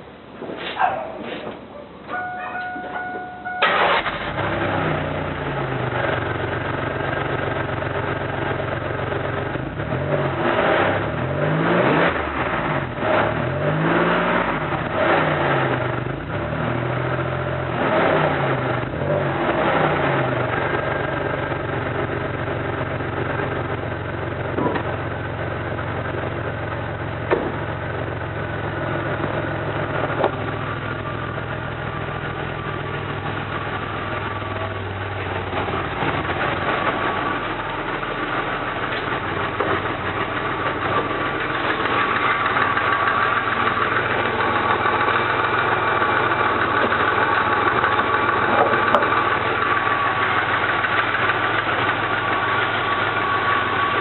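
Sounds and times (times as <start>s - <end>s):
car engine idling: 1.9s - 10.2s, 18.7s - 54.0s.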